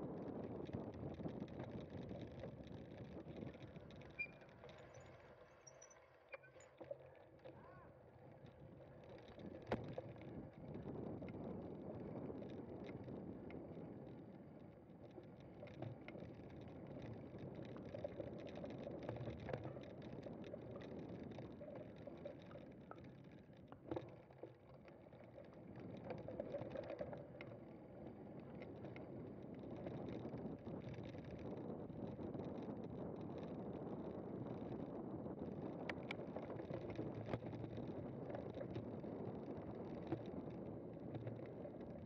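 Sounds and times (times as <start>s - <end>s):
bike tyres rumbling over rough ground: 0.0s - 5.6s, 7.3s - 42.0s
bike rattles and clicks: 0.0s - 42.0s.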